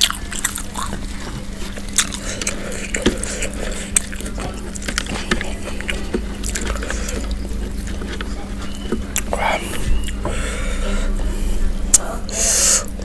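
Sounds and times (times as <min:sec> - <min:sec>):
chewing and biting food: 0:00.0 - 0:10.4
faint steady hum: 0:00.0 - 0:13.0.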